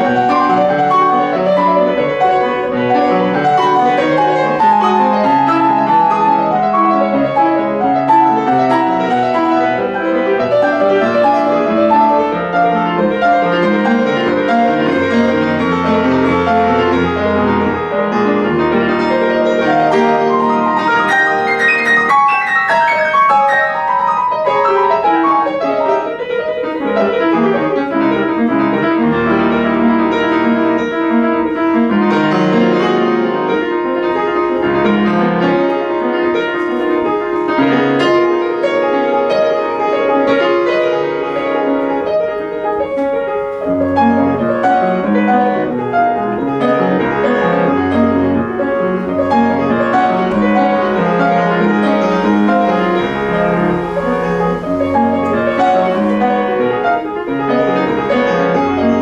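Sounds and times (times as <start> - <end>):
solo classical piano: 0.0 - 59.0.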